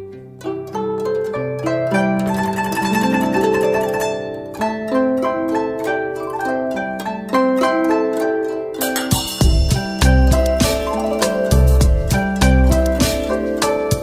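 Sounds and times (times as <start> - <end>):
plucked string notes: 0.0 - 14.0.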